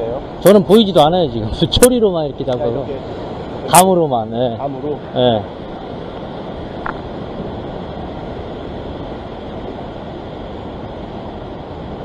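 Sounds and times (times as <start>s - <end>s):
ocean surf breaking on rocks: 0.0s - 12.0s
wind buffeting microphone: 0.0s - 12.0s.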